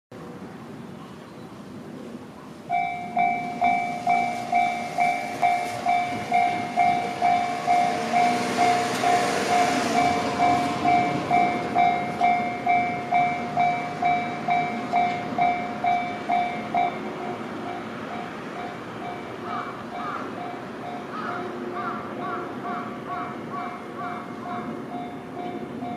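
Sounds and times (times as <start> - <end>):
level crossing warning bell: 2.7 - 25.9.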